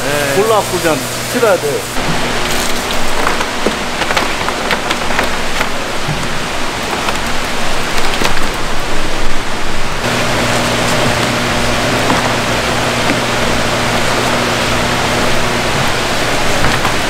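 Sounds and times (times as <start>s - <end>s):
rushing tank water: 0.0s - 17.0s.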